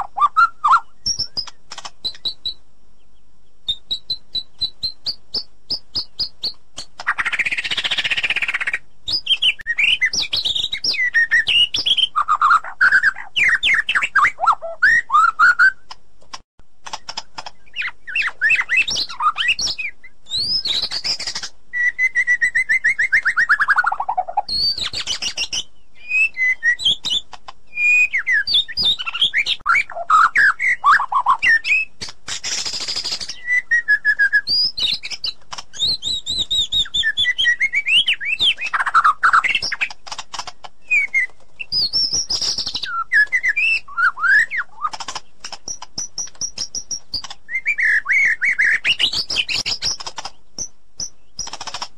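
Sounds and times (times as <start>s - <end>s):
bird singing whistled phrases and trills: 0.0s - 15.9s, 17.6s - 39.9s, 40.8s - 51.6s.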